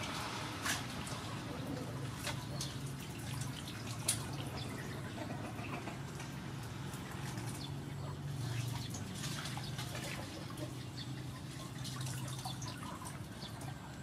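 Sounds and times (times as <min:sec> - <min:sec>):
water splashing and dripping: 0:00.0 - 0:05.3, 0:06.0 - 0:14.0.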